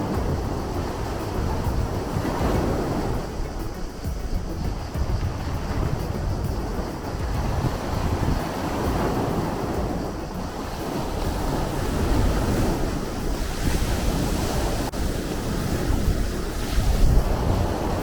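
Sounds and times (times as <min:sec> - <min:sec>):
sea waves breaking: 0:00.0 - 0:18.0
wind rumble on microphone: 0:00.0 - 0:18.0.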